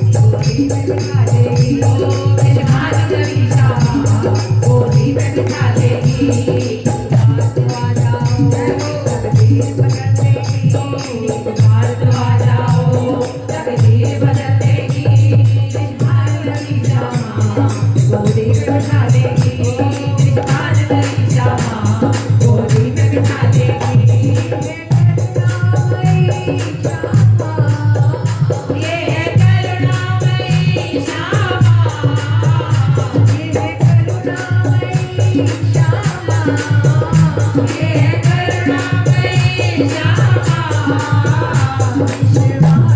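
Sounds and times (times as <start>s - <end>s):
jingling shaker percussion: 0.0s - 42.9s
steady pulsing beat: 0.0s - 42.9s.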